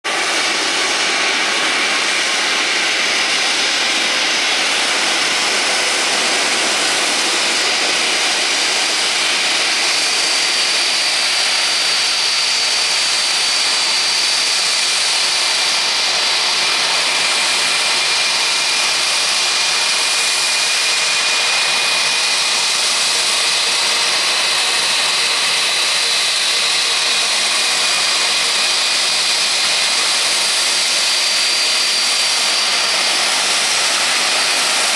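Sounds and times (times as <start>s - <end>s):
jet engines whining: 0.1s - 34.9s.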